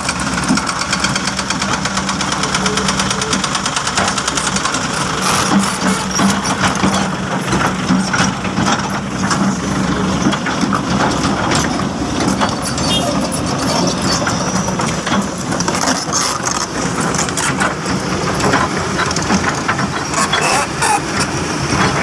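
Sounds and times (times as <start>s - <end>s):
diesel engine clattering: 0.0s - 22.0s
loud engine knocks: 0.0s - 22.0s.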